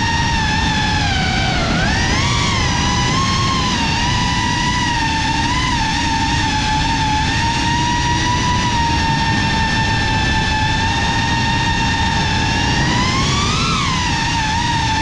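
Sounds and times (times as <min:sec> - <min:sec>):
drone propellers whining: 0:00.0 - 0:15.0
low rushing noise: 0:00.0 - 0:15.0.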